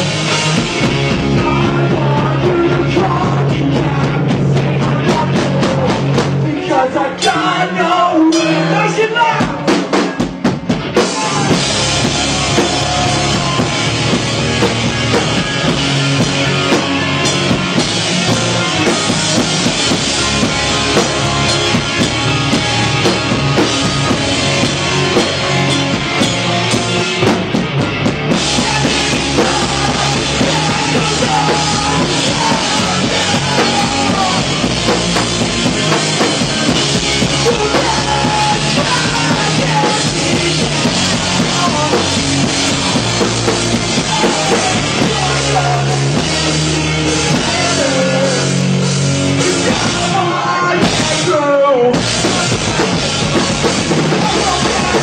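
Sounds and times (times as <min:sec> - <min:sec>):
drum kit: 0:00.0 - 0:07.3, 0:08.3 - 0:55.0
electric guitars: 0:00.0 - 0:07.7, 0:08.3 - 0:55.0.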